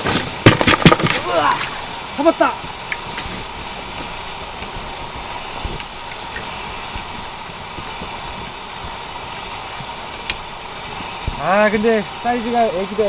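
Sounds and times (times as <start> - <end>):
gusty wind on microphone: 0.0 - 13.0
low buffeting thumps: 0.3 - 12.8.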